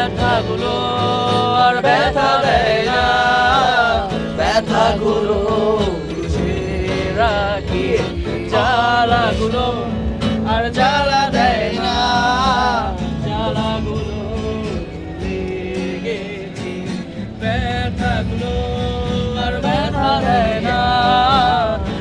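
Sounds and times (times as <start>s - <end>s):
acoustic guitar: 0.0s - 22.0s
man singing: 0.0s - 22.0s.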